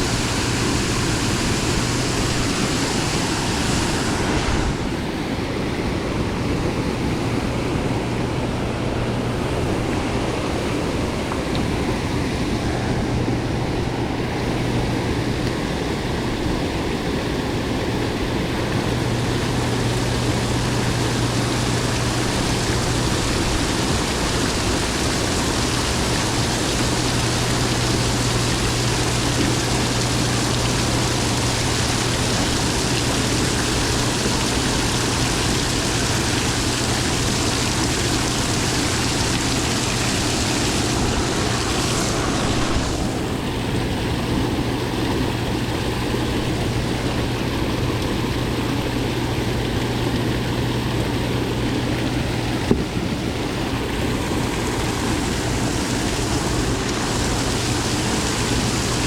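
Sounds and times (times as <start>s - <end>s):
rushing water below a dam: 0.0s - 59.0s.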